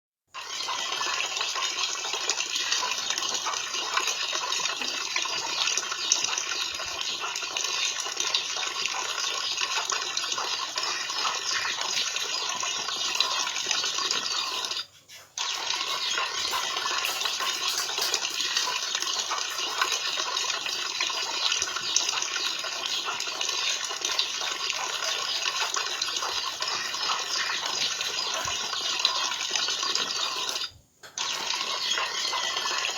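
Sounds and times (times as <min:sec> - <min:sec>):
water running and splashing: 0:00.4 - 0:32.9.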